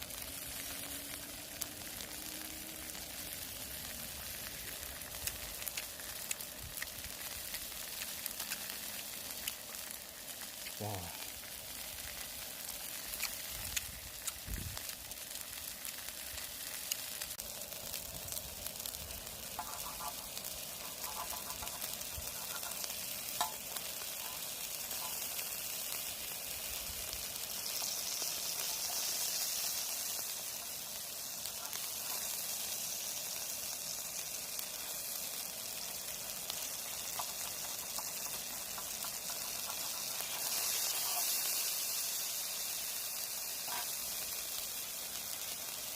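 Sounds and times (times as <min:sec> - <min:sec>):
meat sizzling on griddle: 0:00.0 - 0:45.9.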